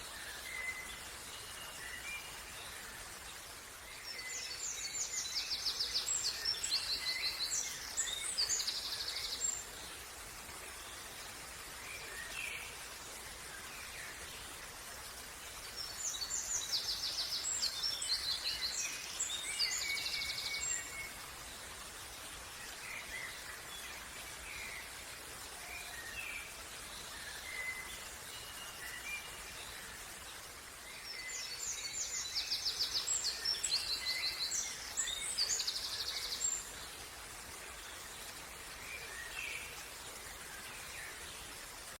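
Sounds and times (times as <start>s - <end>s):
outdoor background hiss: 0.0s - 42.0s.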